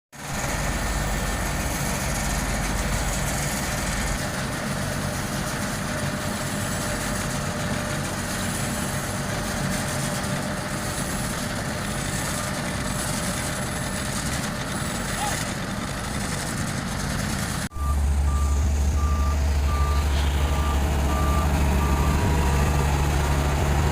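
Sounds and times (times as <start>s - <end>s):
heavy diesel machinery rumbling: 0.2s - 23.9s.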